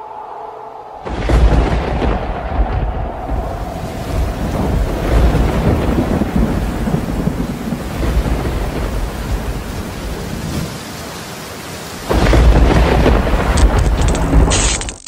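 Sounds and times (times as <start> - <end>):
dense rumbling noise: 0.0 - 9.7, 12.1 - 15.0.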